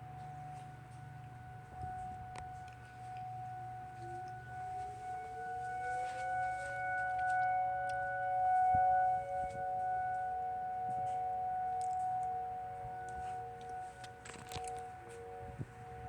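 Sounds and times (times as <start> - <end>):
outdoor warning sirens: 0.0 - 16.0.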